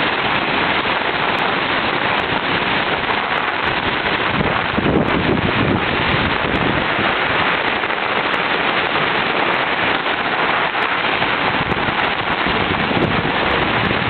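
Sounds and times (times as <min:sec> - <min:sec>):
falling rain: 0:00.0 - 0:14.0
swollen river rushing: 0:00.0 - 0:14.0.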